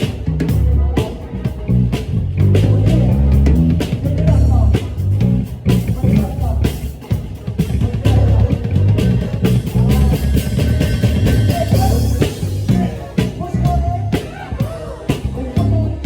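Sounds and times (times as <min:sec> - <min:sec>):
band playing funk: 0:00.0 - 0:16.0
bass line: 0:00.0 - 0:16.0
electric guitar: 0:00.0 - 0:16.0.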